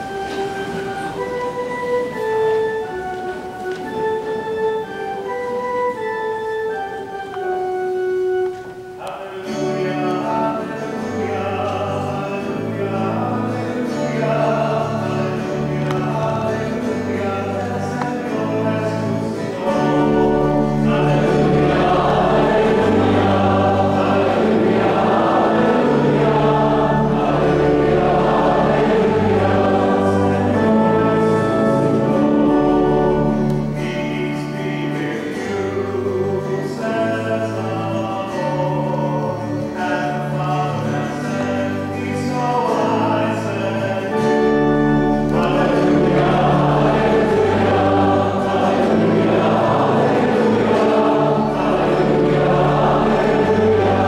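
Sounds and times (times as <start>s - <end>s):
church organ: 0.0s - 54.0s
choir singing a hymn: 7.4s - 54.0s.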